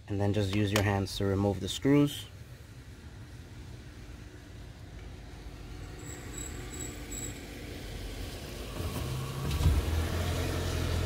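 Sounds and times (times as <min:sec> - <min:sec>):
engine-like hum: 0:00.0 - 0:11.0.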